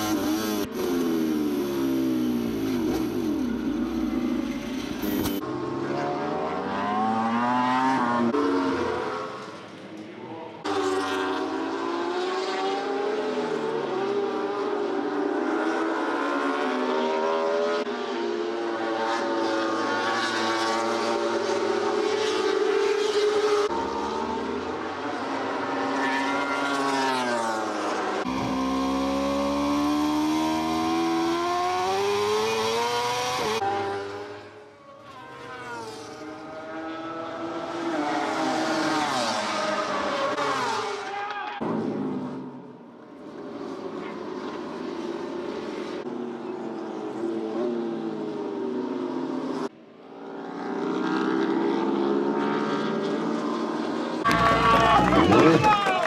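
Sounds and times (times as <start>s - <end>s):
racing motorcycle engines revving: 0.0s - 56.0s.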